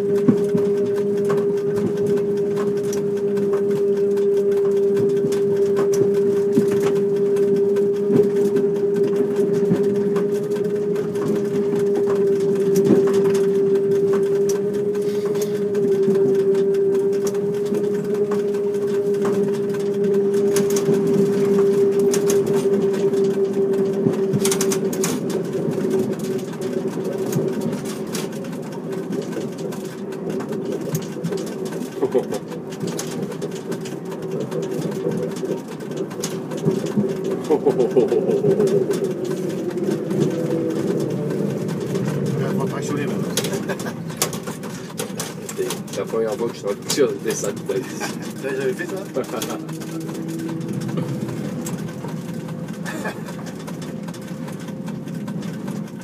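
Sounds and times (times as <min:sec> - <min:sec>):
electric train motor hum: 0:00.0 - 0:56.0
train car clicks and rattles: 0:00.0 - 0:56.0.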